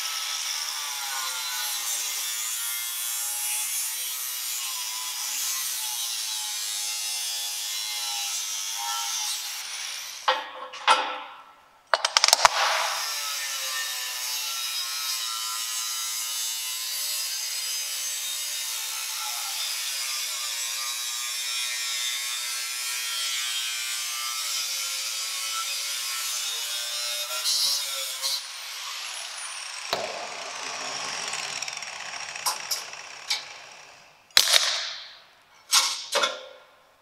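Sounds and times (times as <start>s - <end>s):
angle grinder cutting metal: 0.0s - 10.3s, 12.2s - 34.4s.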